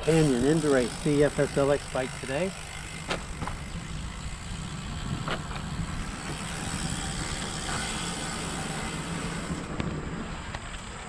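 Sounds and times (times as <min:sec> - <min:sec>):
bike tyres rumbling on pavement: 0:00.0 - 0:11.0.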